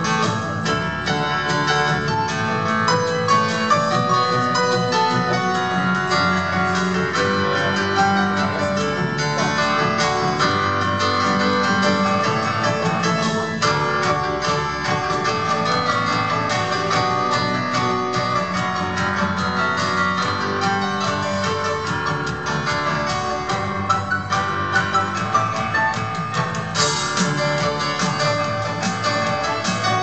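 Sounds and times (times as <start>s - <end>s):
electronic keyboard playing: 0.0s - 30.0s.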